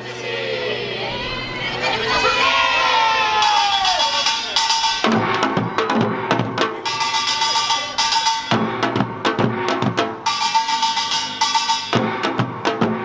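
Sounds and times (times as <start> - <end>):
drums beating dense strokes: 1.2 - 13.0.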